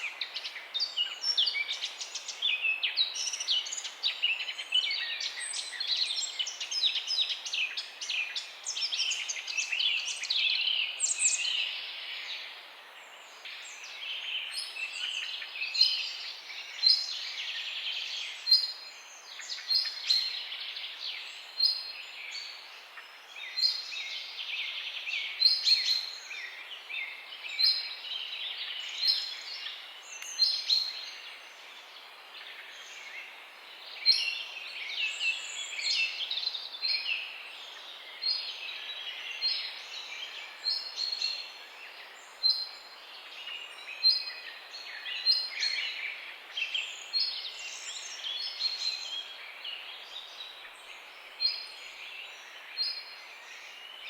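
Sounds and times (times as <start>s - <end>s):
small birds chirping: 0.0s - 54.0s
soft outdoor hiss: 0.0s - 54.0s.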